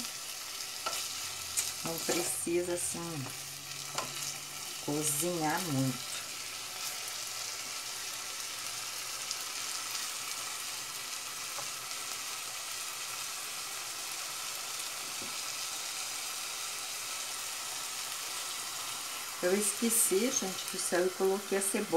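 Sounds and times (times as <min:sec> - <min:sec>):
fish and onion sizzling in a pot: 0:00.0 - 0:21.9.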